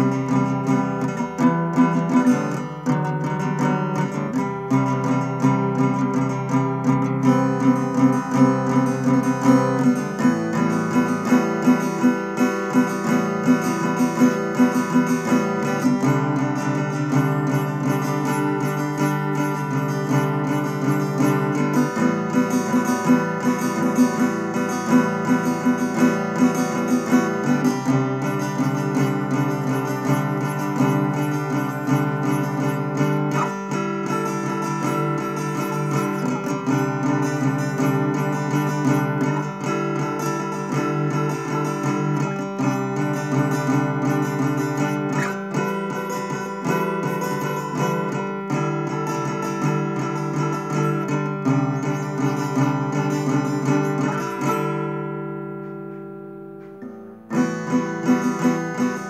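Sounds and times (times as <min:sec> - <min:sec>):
acoustic guitar picking: 0:00.0 - 0:59.0.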